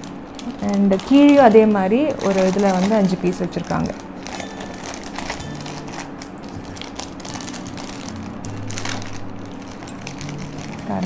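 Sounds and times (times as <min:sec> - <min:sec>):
sweet wrapper crinkling: 0:00.0 - 0:11.0.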